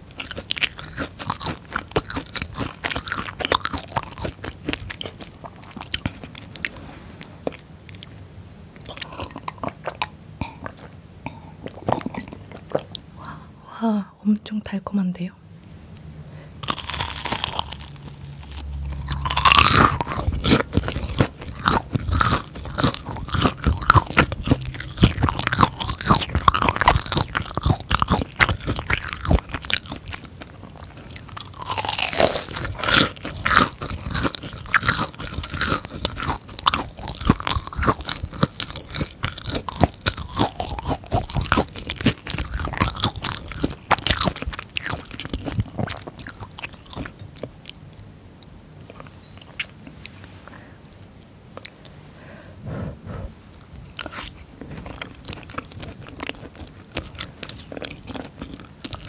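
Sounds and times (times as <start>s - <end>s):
crunching and chewing fried food: 0.0s - 13.4s, 15.6s - 50.6s, 51.4s - 51.9s, 53.5s - 59.0s.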